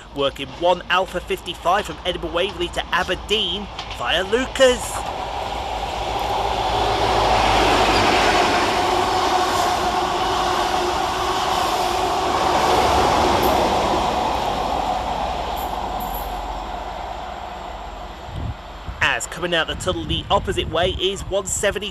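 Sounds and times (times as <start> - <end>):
train engines and wheels rumbling: 0.0 - 21.9.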